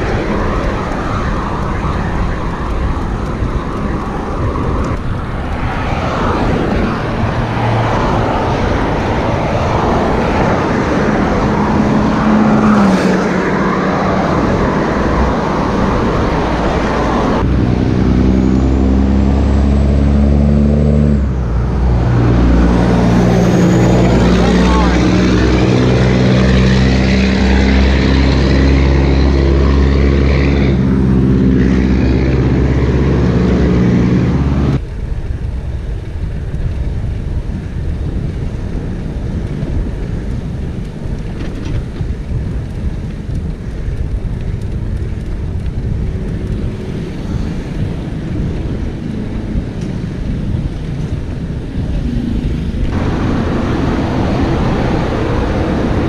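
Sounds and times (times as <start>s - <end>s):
diesel truck engine droning: 0.0s - 35.1s, 43.8s - 56.0s
traffic noise: 0.0s - 56.0s
wind rumbling on microphone: 0.0s - 56.0s.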